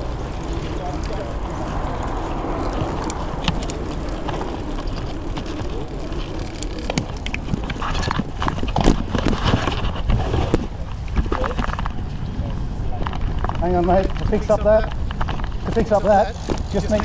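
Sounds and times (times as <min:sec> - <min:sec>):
bike clicking and rattling: 0:00.0 - 0:17.0
wind and road noise: 0:00.0 - 0:17.0.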